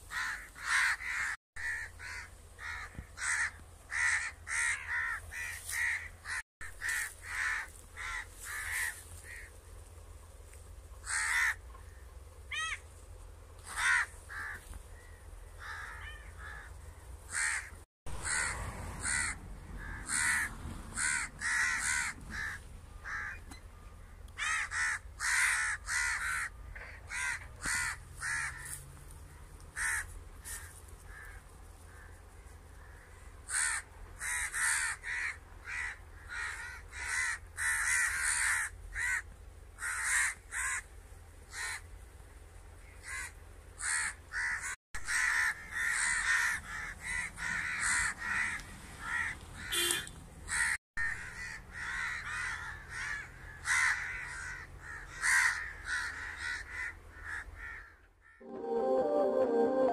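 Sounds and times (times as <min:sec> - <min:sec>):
crows cawing: 0:00.0 - 0:09.6, 0:11.0 - 0:12.8, 0:13.6 - 0:40.9, 0:41.5 - 0:41.9, 0:42.8 - 0:58.4.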